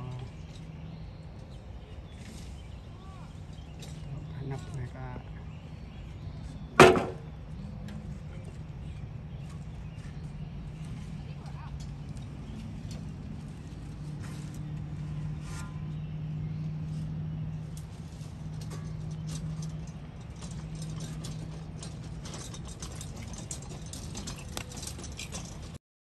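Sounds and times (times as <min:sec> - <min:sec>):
wheelbarrow rattling over ground: 0:00.0 - 0:05.3, 0:05.9 - 0:25.8.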